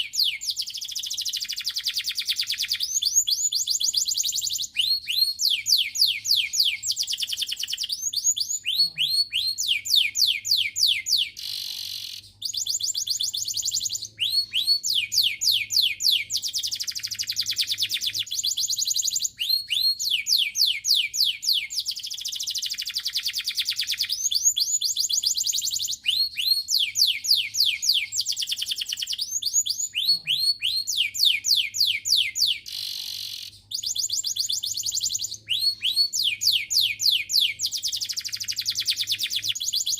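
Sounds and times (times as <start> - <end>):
canary singing in trills: 0.0 - 39.9.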